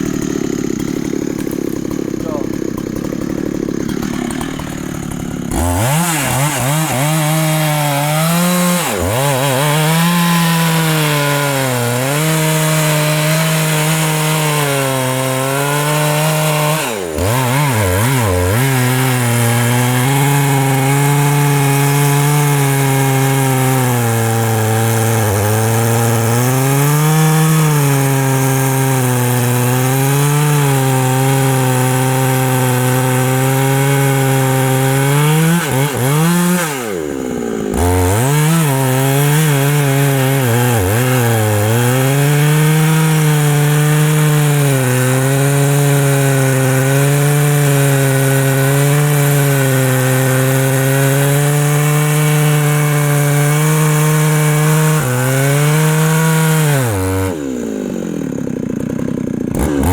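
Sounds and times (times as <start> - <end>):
chainsaw cutting into tree trunk: 0.0 - 59.9.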